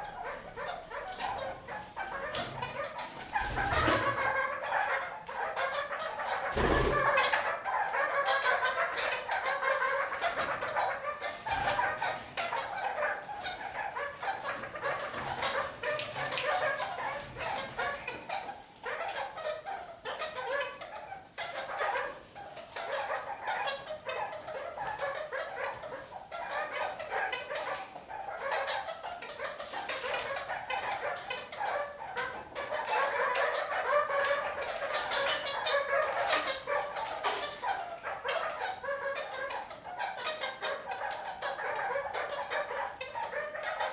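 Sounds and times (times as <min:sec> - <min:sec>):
parakeets chattering: 0:00.0 - 0:43.9.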